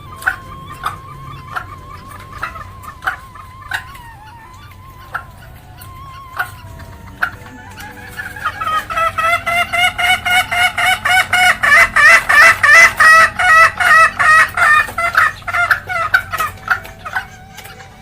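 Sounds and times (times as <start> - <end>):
hen cackling: 0.0 - 18.0.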